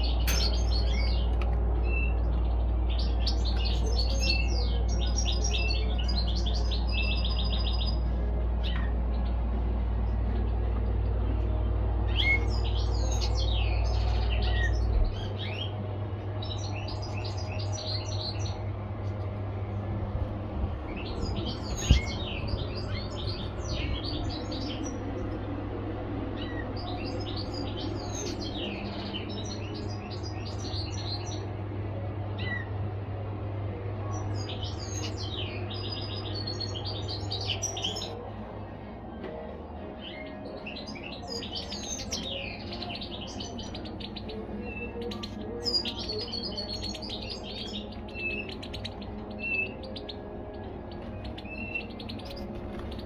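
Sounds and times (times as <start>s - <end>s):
finches chirping and twittering: 0.0s - 33.1s, 34.0s - 53.0s
steady low hum: 0.0s - 53.0s.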